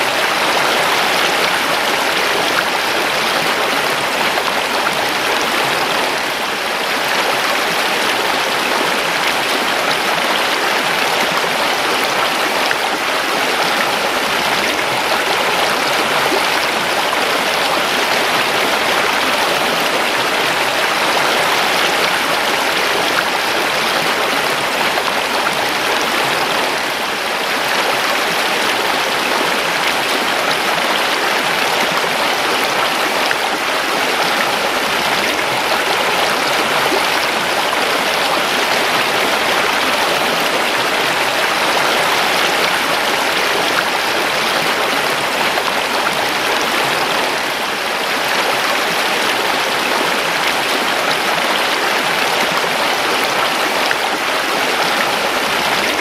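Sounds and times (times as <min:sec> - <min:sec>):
creek water rushing over stones: 0:00.0 - 0:56.0.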